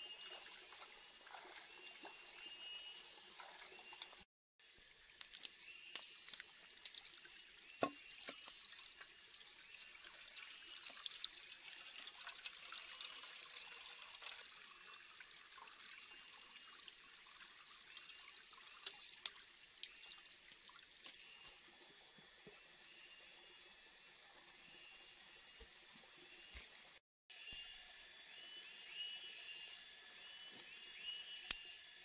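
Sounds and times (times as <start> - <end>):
forest stream trickling: 0.0 - 27.0.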